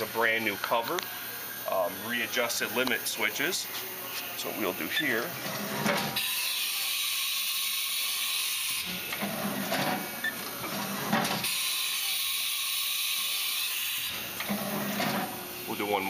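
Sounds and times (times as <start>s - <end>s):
tool changer mechanism humming: 0.0s - 16.0s.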